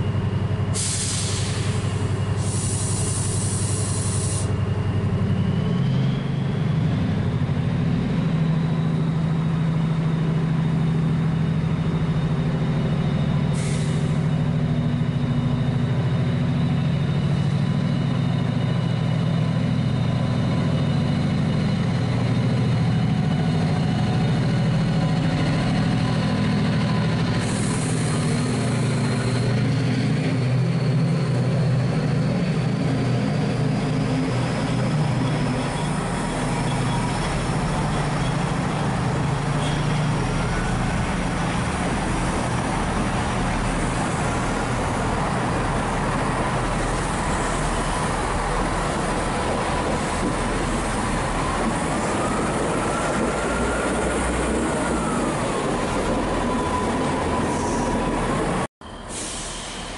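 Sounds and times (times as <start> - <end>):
train wheels rolling on rails: 0.0 - 58.7
diesel locomotive engine drone: 0.0 - 59.9.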